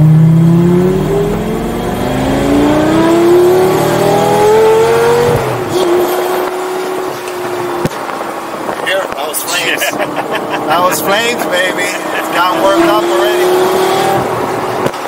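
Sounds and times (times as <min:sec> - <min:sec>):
sports car engine accelerating: 0:00.0 - 0:08.8, 0:09.7 - 0:15.0.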